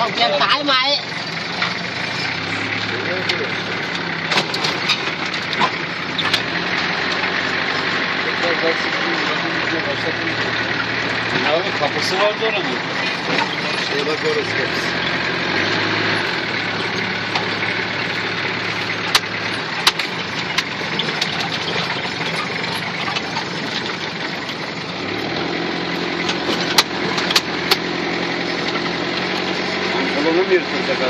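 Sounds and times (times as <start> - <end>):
vehicle engine running: 0.0 - 31.0
sharp knocks and rattles: 1.2 - 29.7.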